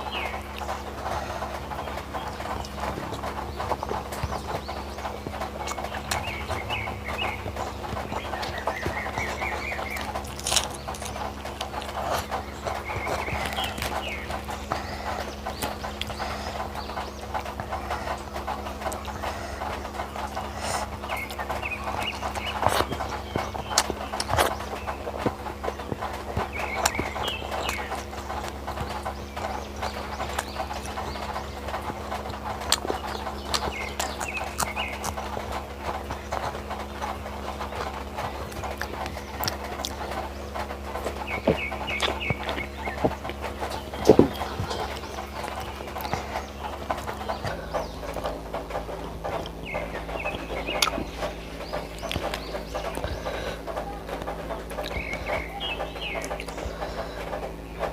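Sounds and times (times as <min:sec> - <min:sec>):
electrical hum: 0:00.0 - 0:57.9
person chewing with lip-smacks: 0:00.0 - 0:57.9.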